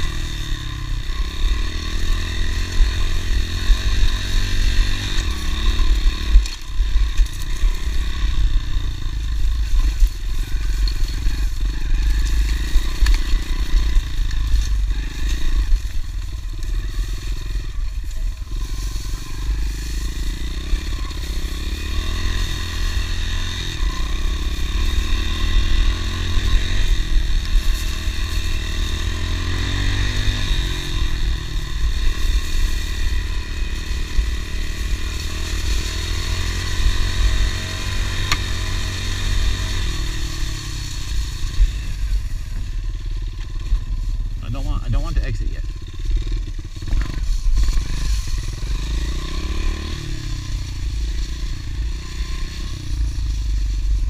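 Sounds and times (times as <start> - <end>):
motorbike engine running: 0.0 - 54.0.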